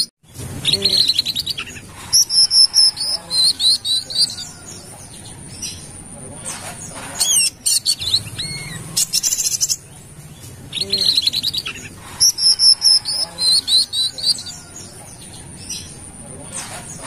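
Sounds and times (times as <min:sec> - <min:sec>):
sunbird singing trills and chirps: 0:00.6 - 0:06.0, 0:07.2 - 0:16.1.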